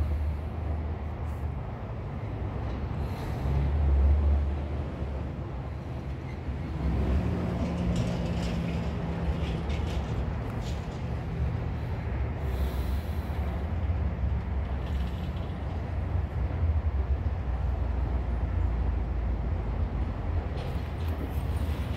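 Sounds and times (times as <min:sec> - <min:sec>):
low outdoor rumble: 0:00.0 - 0:21.9.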